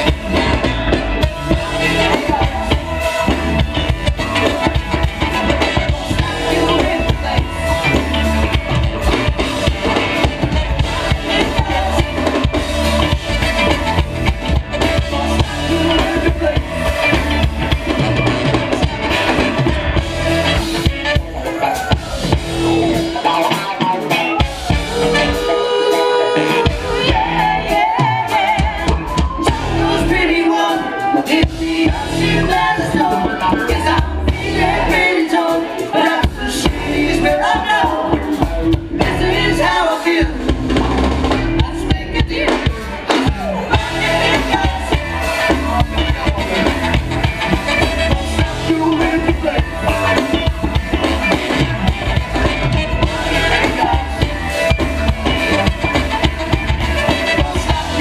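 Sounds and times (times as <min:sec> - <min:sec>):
person singing: 0:00.0 - 0:40.8, 0:41.4 - 0:58.0
drum kit: 0:00.0 - 0:58.0
live funk band playing: 0:00.0 - 0:58.0.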